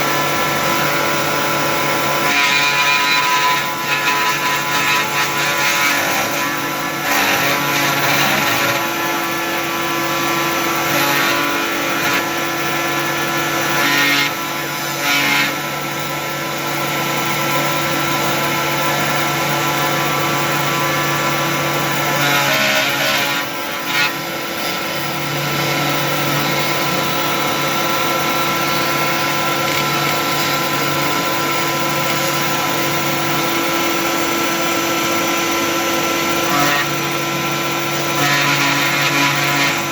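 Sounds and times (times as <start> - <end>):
router machine tones: 0.0 - 39.9
vacuum running: 0.0 - 39.9.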